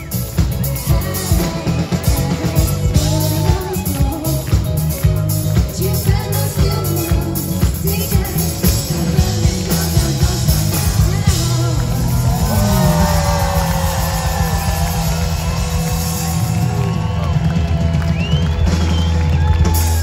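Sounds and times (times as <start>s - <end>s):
live disco-pop band: 0.0s - 20.0s.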